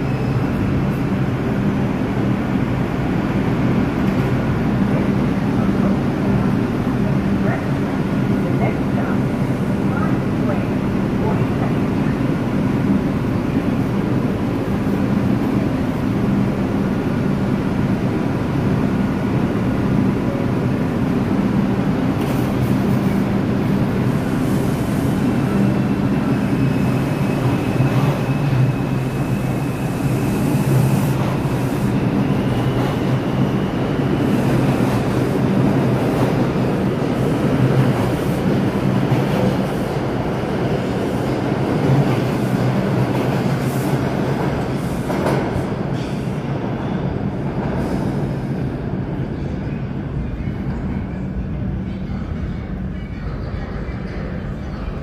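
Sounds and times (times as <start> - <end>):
low hum of standing train: 0.0 - 55.0
train wheels rumbling and clattering: 0.0 - 55.0.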